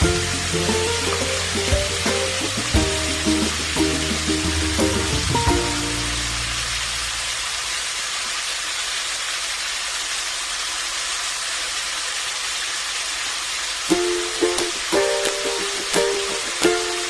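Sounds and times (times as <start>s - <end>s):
food hissing in a pan: 0.0s - 17.0s.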